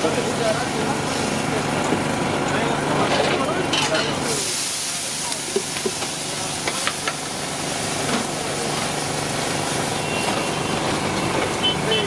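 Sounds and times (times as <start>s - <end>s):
water sizzling on hot griddle: 0.0s - 12.0s.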